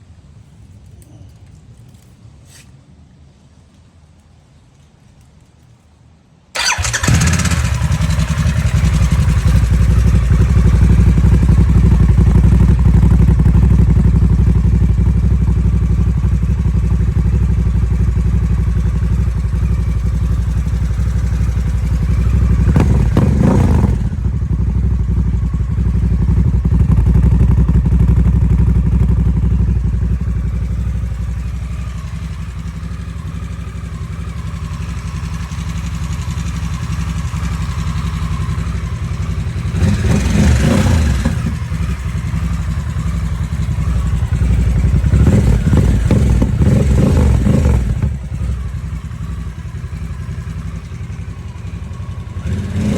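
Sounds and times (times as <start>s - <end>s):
motorcycle engine idling: 6.6s - 52.9s
motorcycle engine starting: 6.6s - 52.9s.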